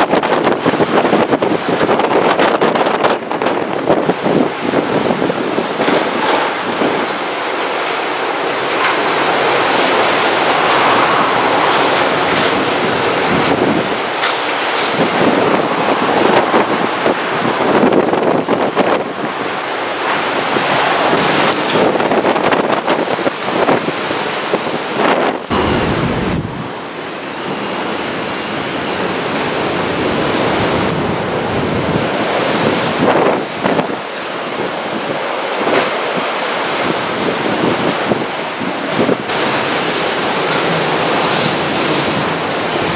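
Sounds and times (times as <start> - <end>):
strong wind rushing: 0.0 - 42.9.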